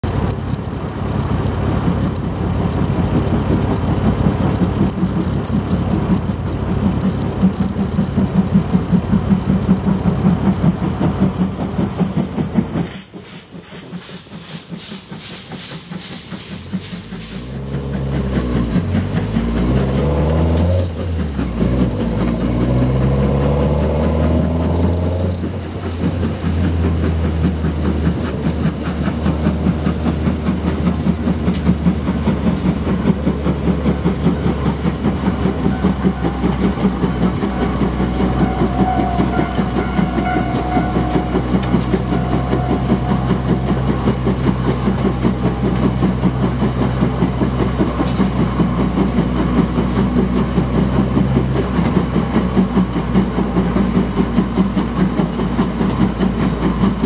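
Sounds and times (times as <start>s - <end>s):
car engine revving: 0.0s - 13.2s, 16.6s - 55.4s
train rail clatter: 0.0s - 57.0s.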